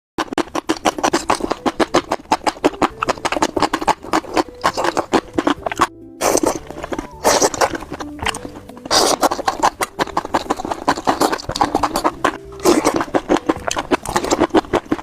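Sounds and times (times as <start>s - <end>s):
crunchy chewing and biting: 0.2s - 15.0s.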